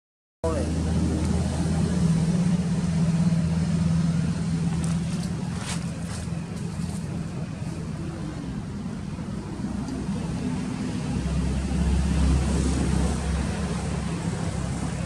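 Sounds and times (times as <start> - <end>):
vehicle engine running: 0.4 - 15.0.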